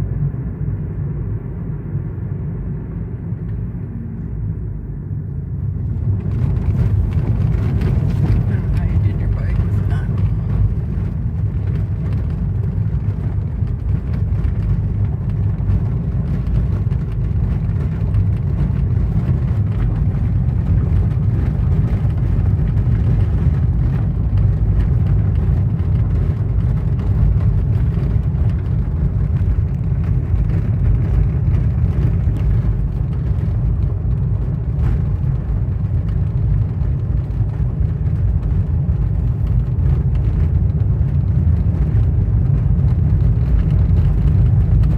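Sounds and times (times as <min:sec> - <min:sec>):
low rumble of vehicle engine: 0:00.0 - 0:44.9.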